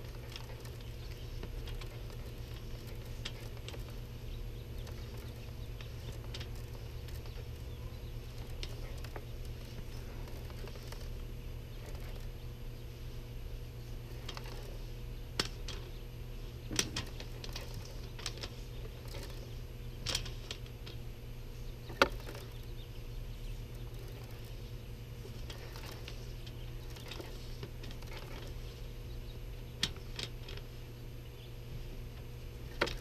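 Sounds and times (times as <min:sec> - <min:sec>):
low steady background noise: 0:00.0 - 0:33.0.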